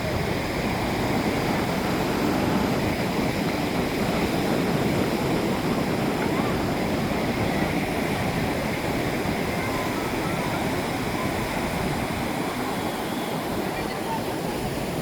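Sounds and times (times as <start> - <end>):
ocean surf washing on beach: 0.0 - 15.0.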